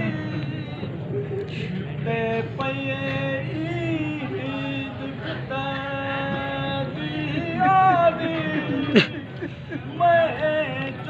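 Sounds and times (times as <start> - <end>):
man chanting over a loudspeaker: 0.0 - 0.7, 2.0 - 9.2, 9.8 - 11.0.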